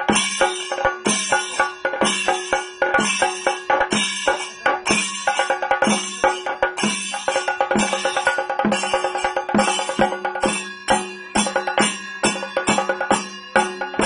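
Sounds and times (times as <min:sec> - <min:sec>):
drum beaten with sticks: 0:00.0 - 0:14.0
hand cymbals clashing: 0:00.0 - 0:14.0.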